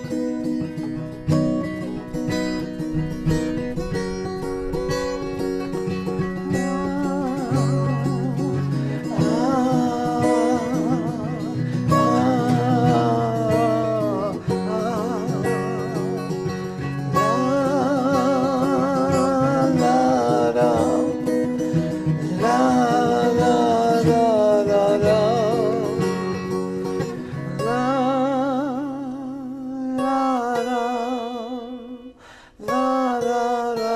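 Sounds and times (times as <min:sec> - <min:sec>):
acoustic guitar: 0:00.0 - 0:33.9
person singing with vibrato: 0:05.3 - 0:33.9.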